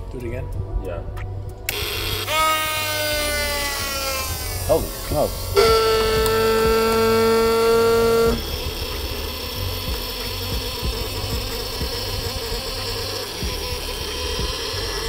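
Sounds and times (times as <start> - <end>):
fuel pump buzzing whir: 1.2 - 15.0
fuel pump whine: 1.3 - 15.0.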